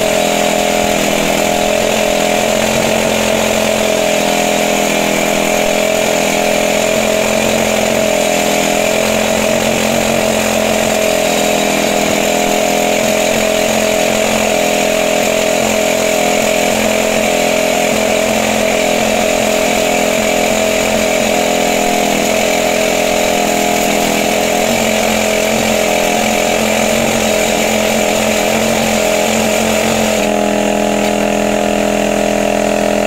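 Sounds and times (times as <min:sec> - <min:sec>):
excavator engine running: 0:00.0 - 0:33.0
rock drill hammering: 0:00.0 - 0:33.0.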